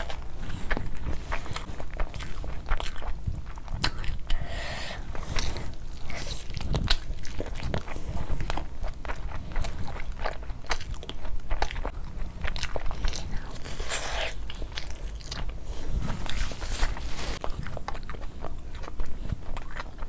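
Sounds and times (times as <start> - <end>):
person chewing with full mouth: 0.0 - 20.0.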